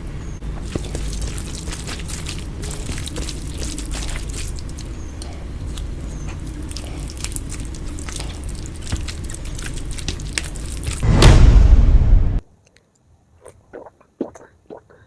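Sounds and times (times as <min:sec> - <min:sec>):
steady low hum: 0:00.0 - 0:12.4
wet mouth clicks and squishes: 0:00.6 - 0:11.0, 0:12.6 - 0:15.0.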